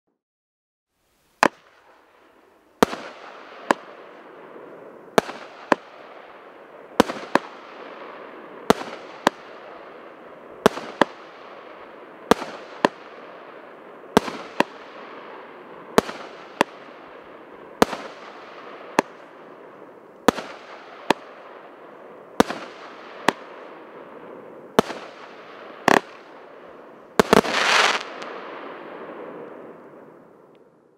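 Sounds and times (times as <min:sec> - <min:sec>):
crackling hiss: 0:00.9 - 0:30.9
firework bangs and pops: 0:01.4 - 0:30.4.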